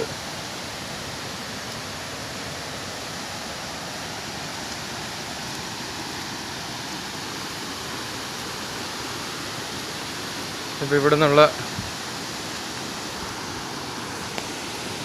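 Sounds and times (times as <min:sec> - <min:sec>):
stream cascading down rocks: 0:00.0 - 0:15.0.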